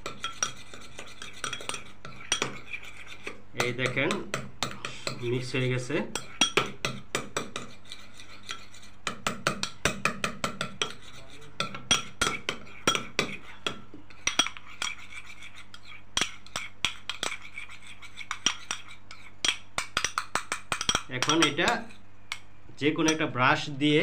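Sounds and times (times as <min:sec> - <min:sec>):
spoon clinking and scraping bowl: 0:00.0 - 0:22.4.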